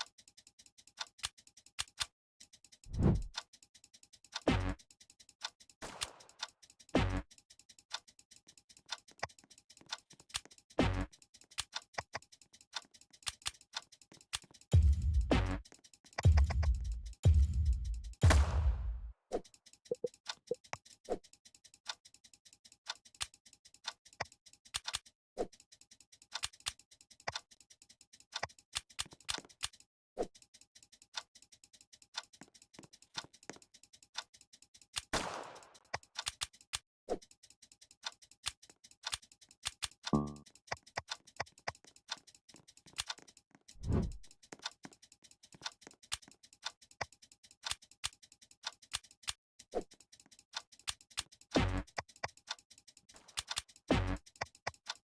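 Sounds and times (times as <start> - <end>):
sharp irregular clicks: 0.0 - 18.6, 19.3 - 55.0.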